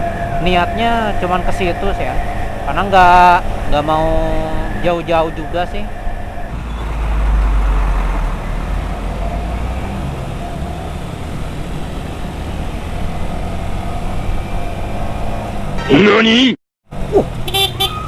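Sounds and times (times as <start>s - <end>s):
wind rumble on microphone: 0.0s - 15.8s.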